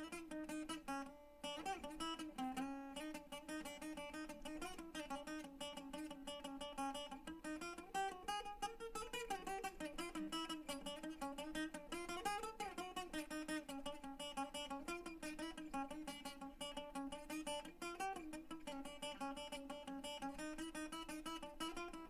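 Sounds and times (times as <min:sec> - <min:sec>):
acoustic guitar plucked melody: 0:00.0 - 0:22.0.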